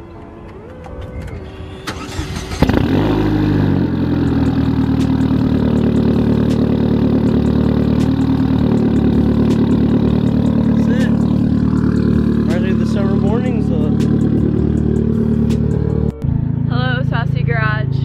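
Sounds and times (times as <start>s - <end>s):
car engine revving and idling: 1.9s - 18.0s.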